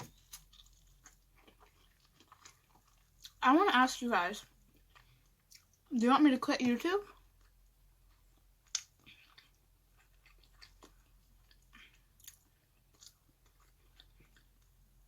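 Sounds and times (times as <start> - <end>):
chewing food: 0.0 - 3.4, 4.4 - 5.9, 6.7 - 15.0.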